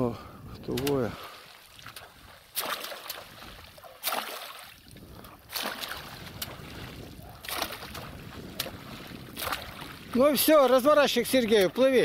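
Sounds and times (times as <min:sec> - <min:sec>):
pole slapping water: 0:00.6 - 0:12.0.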